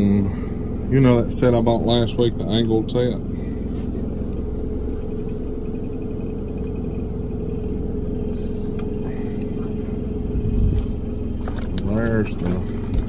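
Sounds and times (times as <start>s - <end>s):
constant mid-pitched tone: 0.0s - 13.0s
machinery rumble and hum: 0.0s - 13.0s.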